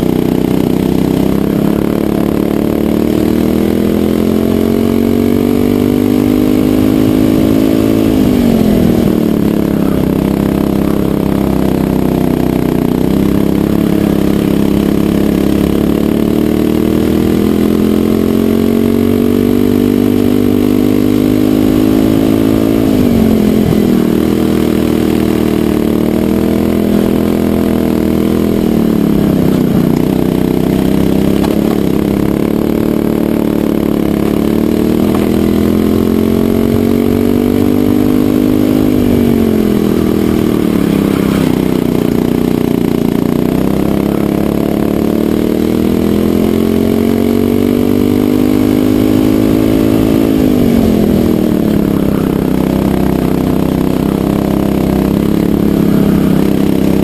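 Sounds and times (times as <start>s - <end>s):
racing kart engine at full throttle: 0.0s - 57.0s.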